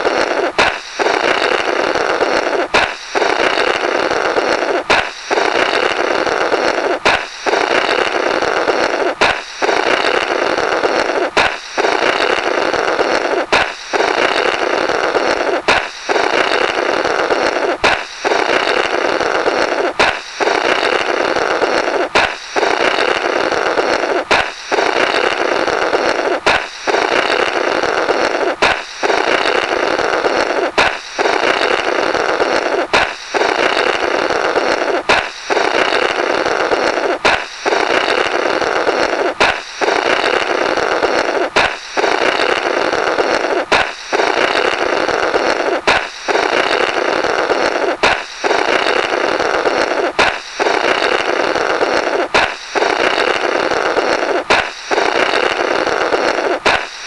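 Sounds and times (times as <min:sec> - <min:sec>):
balloon popping: 0:00.0 - 0:57.0
raspy fluttering air from balloon: 0:00.0 - 0:57.0.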